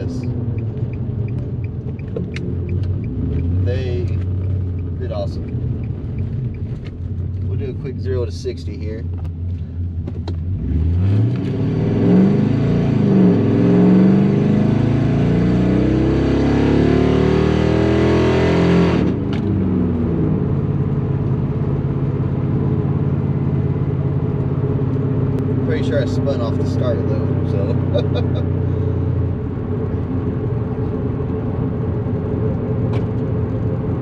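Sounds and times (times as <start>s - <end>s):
car engine accelerating through gears: 0.0s - 8.1s, 8.8s - 34.0s.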